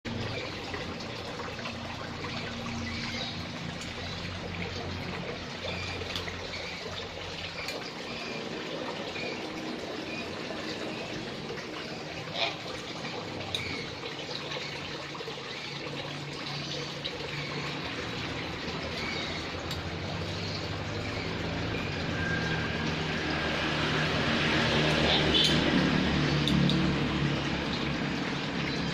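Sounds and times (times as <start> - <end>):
running water trickling: 0.0 - 28.9.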